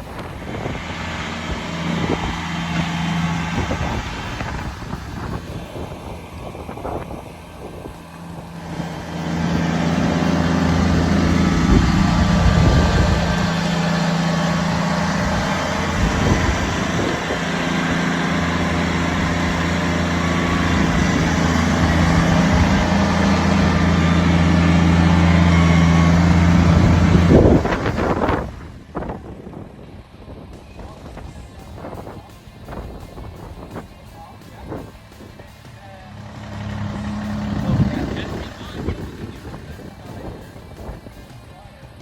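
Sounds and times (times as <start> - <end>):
small diesel engine running: 0.0 - 42.0.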